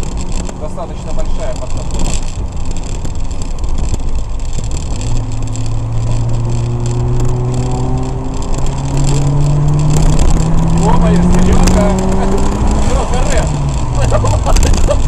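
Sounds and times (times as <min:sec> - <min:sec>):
car engine drone rising: 0:00.0 - 0:15.0
tyres on wet road: 0:00.0 - 0:15.0.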